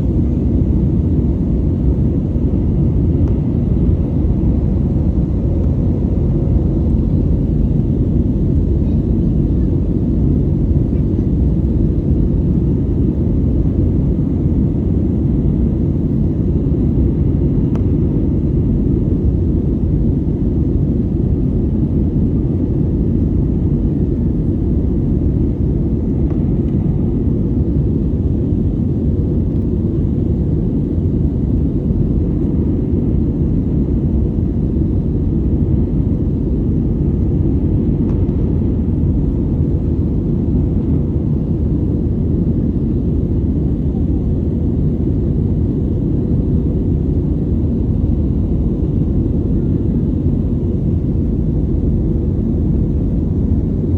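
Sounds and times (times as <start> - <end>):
airplane engine rumble: 0.0 - 53.9.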